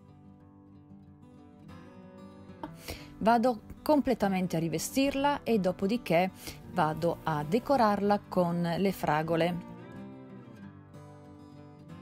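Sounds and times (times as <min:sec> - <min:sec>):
faint acoustic guitar music: 0:00.0 - 0:12.0.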